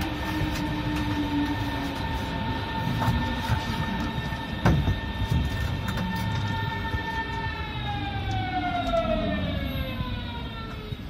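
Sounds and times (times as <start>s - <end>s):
train motors whining: 0.0s - 11.0s
train rumbling on track: 0.0s - 11.0s.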